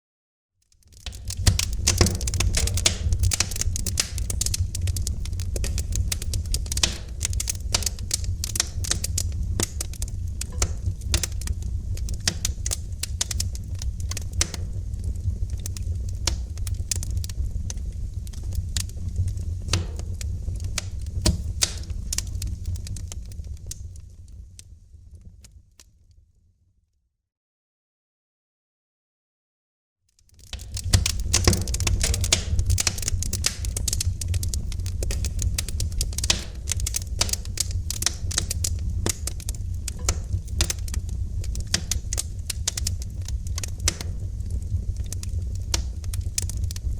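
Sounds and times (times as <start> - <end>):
wood fire crackling and popping: 0.7 - 25.9, 30.2 - 46.9.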